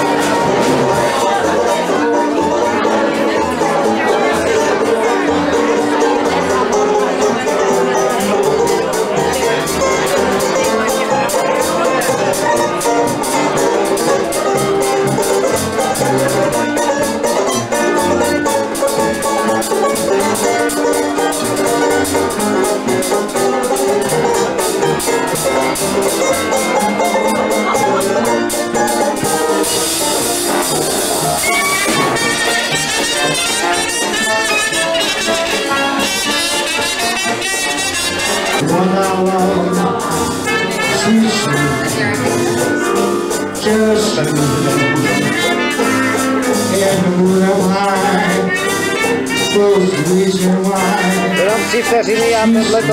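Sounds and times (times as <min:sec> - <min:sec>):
jazz band playing: 0:00.0 - 0:52.9
wavering lead melody: 0:00.0 - 0:52.9.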